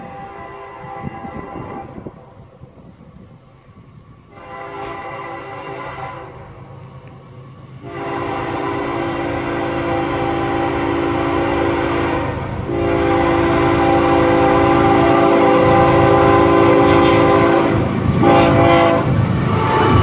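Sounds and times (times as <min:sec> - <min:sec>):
locomotive horn blasts: 0:00.0 - 0:02.2, 0:04.3 - 0:06.5, 0:07.8 - 0:20.0.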